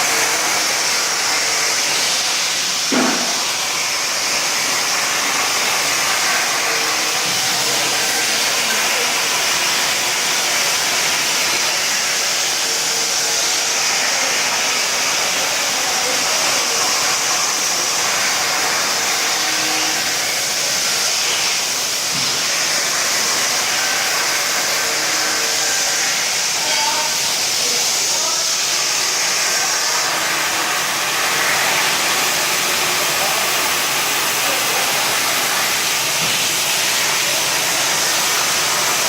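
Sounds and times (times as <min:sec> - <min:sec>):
plasma torch cutting metal hiss: 0:00.0 - 0:39.0.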